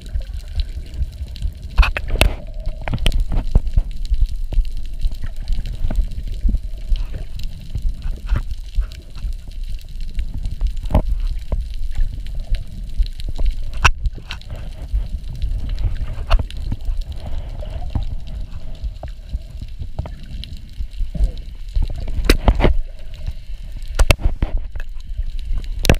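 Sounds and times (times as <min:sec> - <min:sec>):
bubbles gurgling: 0:00.0 - 0:25.9
muffled underwater rumble: 0:00.0 - 0:25.9
sharp underwater clicks: 0:00.0 - 0:25.9.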